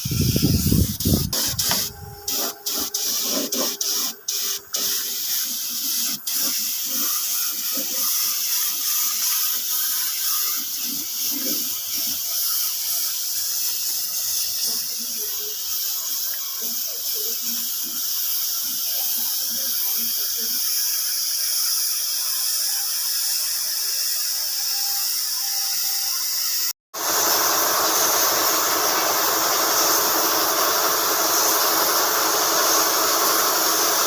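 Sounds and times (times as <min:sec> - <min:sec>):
paint spray gun hissing: 0:00.0 - 0:34.0.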